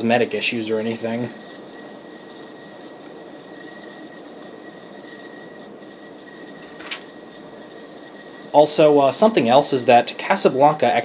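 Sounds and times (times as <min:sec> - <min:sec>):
ceiling fan humming: 0:00.0 - 0:11.0.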